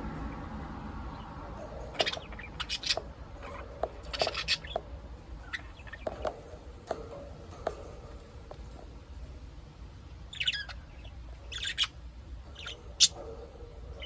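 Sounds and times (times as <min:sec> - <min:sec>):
budgerigars chirping: 0:01.1 - 0:09.4, 0:10.3 - 0:14.0.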